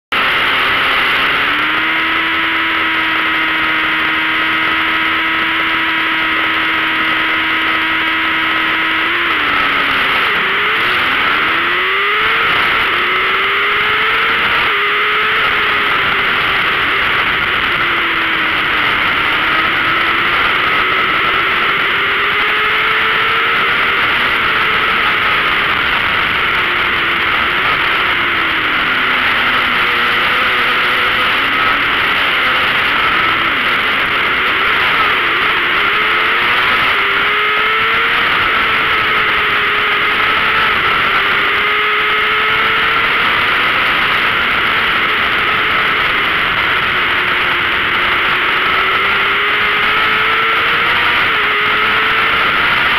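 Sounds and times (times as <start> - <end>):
racing motorcycle engine: 0.0 - 52.9.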